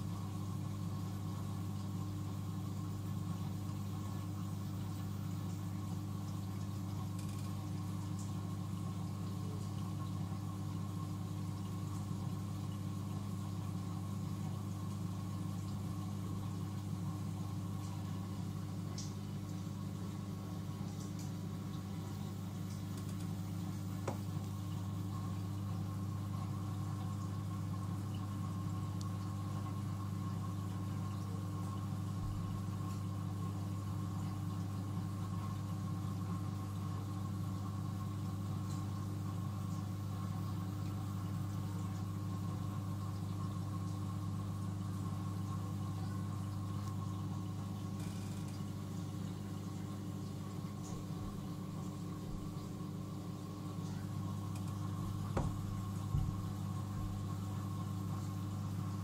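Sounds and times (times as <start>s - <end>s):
aquarium pumps humming: 0.0s - 59.0s.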